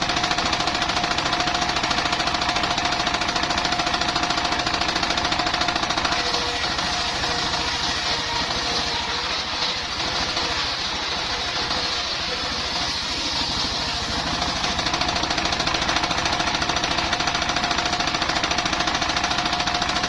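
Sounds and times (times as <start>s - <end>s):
sawmill engine chugging: 0.0s - 20.0s.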